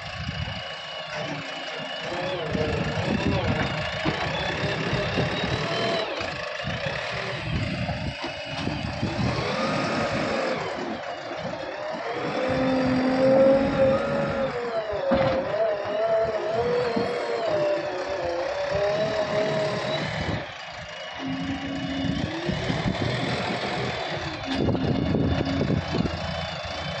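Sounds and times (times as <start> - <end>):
diesel engine revving: 0.0 - 27.0.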